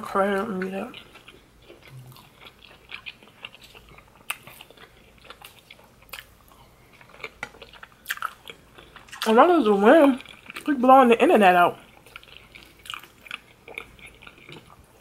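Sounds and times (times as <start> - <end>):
chewing and biting: 0.5 - 10.7, 11.8 - 15.0.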